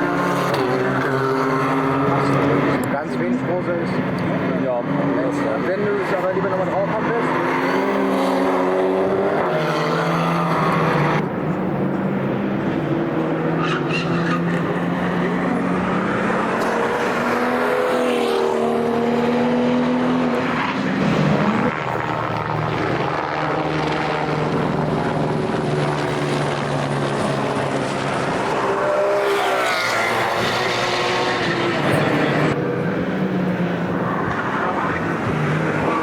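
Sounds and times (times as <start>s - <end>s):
racing car engines passing: 0.0s - 36.0s.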